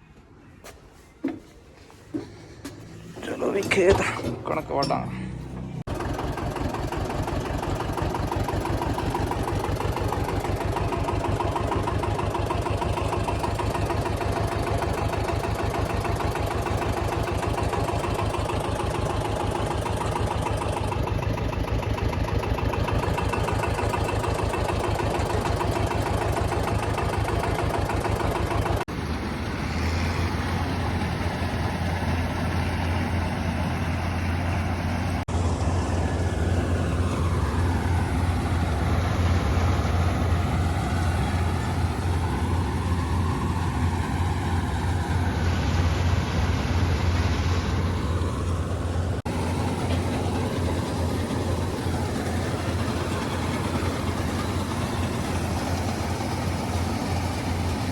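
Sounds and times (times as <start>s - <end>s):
tractor diesel engine running: 1.3s - 57.9s.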